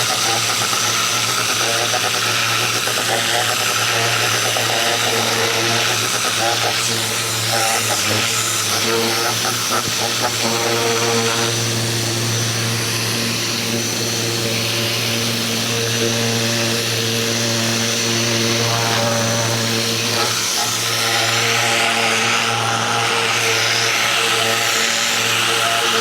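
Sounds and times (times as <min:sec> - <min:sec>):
pressure washer motor hum: 0:00.0 - 0:26.0.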